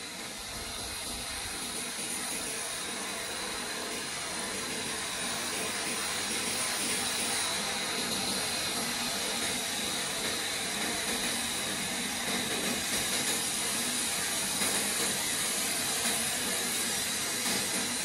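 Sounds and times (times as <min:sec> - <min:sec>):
paint sprayer air unit whine: 0:00.0 - 0:18.0.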